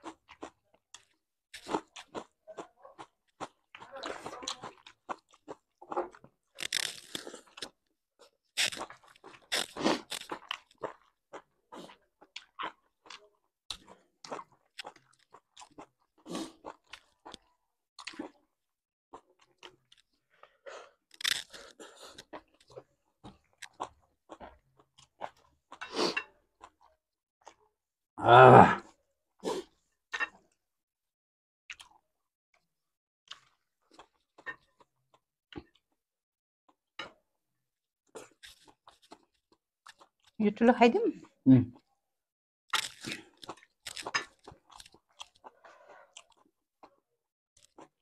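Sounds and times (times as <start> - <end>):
people chewing and crunching food: 0.0 - 30.6, 31.7 - 36.0, 36.7 - 40.4, 42.7 - 48.0.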